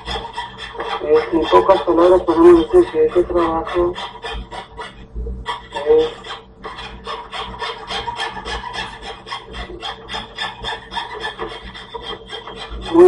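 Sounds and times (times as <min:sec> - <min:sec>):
scroll saw rasping through wood: 0:00.0 - 0:13.0.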